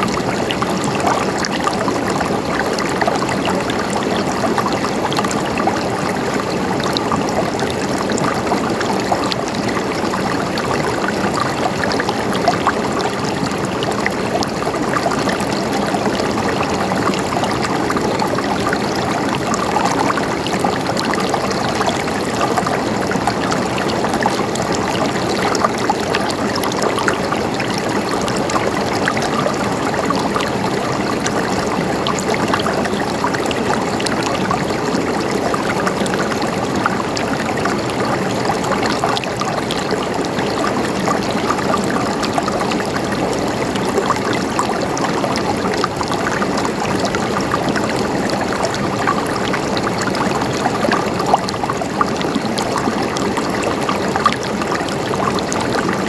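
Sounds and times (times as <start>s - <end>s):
water gurgling over rocks: 0.0s - 56.0s.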